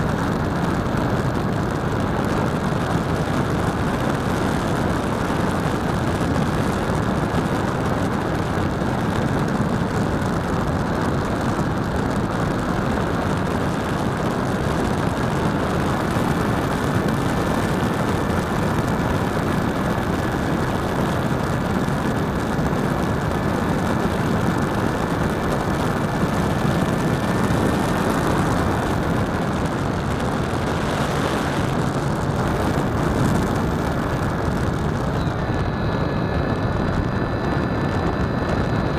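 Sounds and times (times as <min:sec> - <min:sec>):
faint high whine: 0:00.0 - 0:38.9
model airplane motor and propeller: 0:00.0 - 0:38.9
wind noise on microphone: 0:00.0 - 0:38.9.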